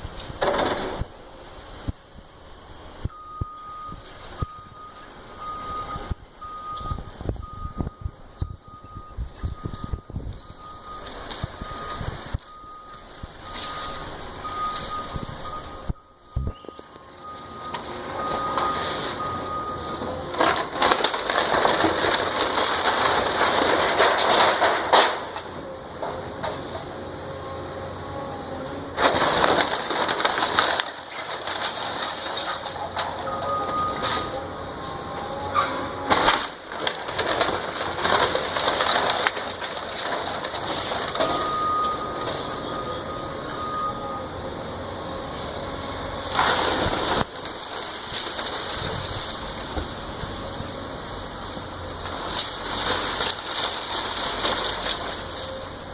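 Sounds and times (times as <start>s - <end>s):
debris crashing and crunching: 0.0s - 1.2s, 3.1s - 27.0s, 28.6s - 44.2s, 45.5s - 55.9s
demolition machinery din: 0.0s - 55.9s.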